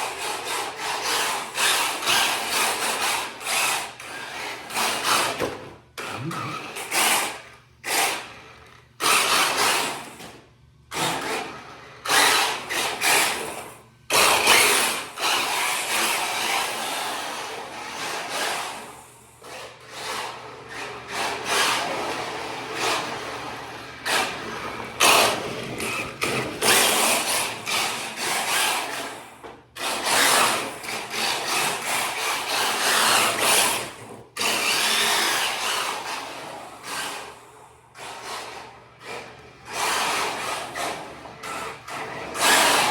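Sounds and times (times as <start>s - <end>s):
rc car motor whirring: 0.0s - 5.4s, 6.0s - 42.9s.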